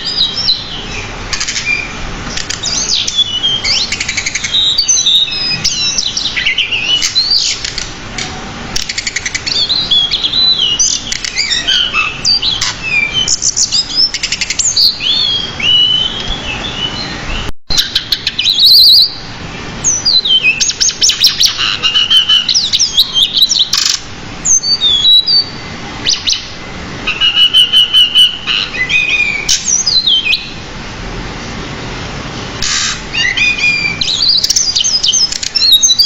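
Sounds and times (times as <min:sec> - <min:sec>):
bird singing: 0:00.0 - 0:07.9, 0:08.8 - 0:30.7, 0:33.0 - 0:36.0.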